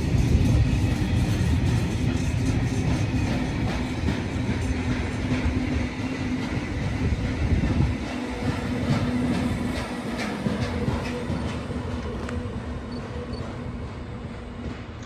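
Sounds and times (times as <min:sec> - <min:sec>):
train rumbling past: 0:00.0 - 0:15.0
train wheels clicking on track: 0:00.0 - 0:15.0.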